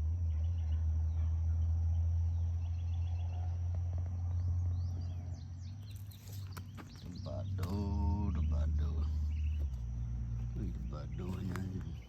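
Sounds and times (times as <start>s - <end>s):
high insect tone: 0.0s - 12.0s
insect trills: 0.0s - 12.0s
low rumble: 0.0s - 12.0s
bird chirps: 0.2s - 12.0s.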